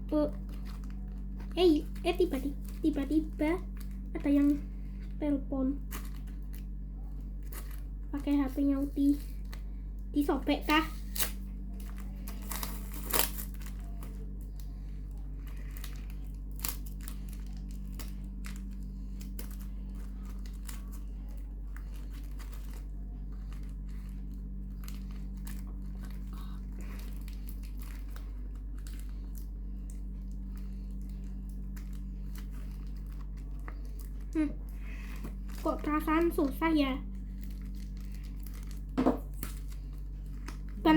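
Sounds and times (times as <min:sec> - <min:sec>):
steady low hum: 0:00.0 - 0:40.9
packaging crinkling and tearing: 0:00.2 - 0:04.7, 0:05.8 - 0:40.9.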